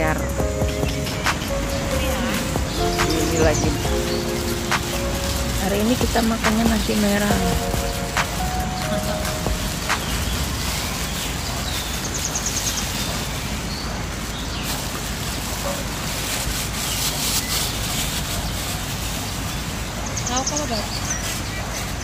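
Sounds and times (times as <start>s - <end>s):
birds chirping: 0.0s - 15.6s, 16.8s - 22.0s
plastic bag crinkling: 0.0s - 22.0s.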